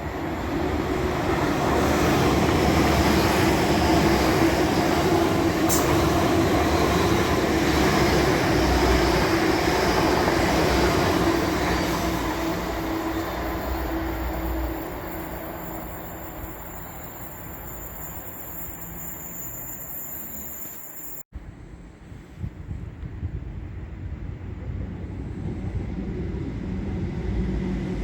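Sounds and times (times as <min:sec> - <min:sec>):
diesel train passing: 0:00.0 - 0:22.2, 0:23.2 - 0:28.0.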